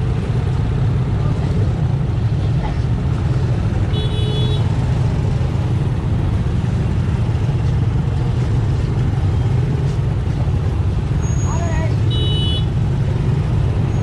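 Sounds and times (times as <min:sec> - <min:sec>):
motorbike engines rumbling: 0:00.0 - 0:14.0.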